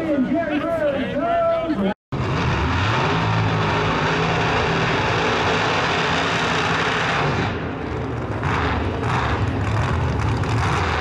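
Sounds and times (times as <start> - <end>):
engine at high revs: 2.1 - 11.0.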